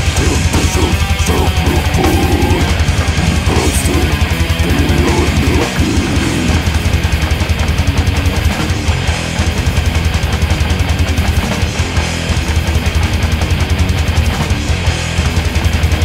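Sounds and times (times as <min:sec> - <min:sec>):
distorted electric guitars: 0:00.0 - 0:16.0
drum kit: 0:00.0 - 0:16.0.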